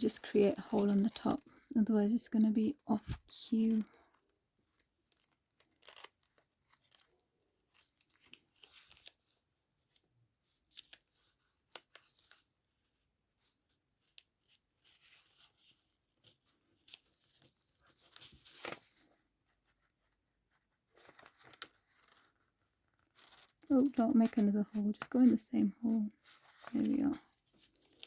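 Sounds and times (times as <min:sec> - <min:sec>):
paper rustling and crinkling: 0:00.0 - 0:01.7, 0:02.9 - 0:28.0.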